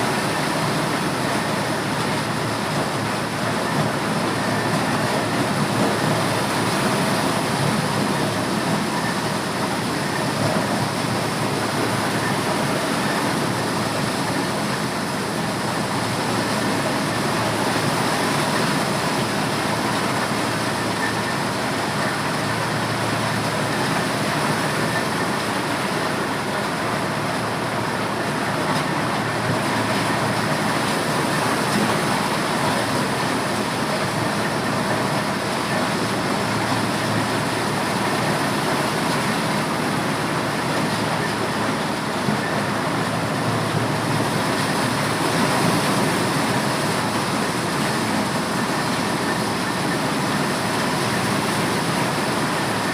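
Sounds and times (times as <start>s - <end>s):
corn sheller running: 0.0s - 52.9s.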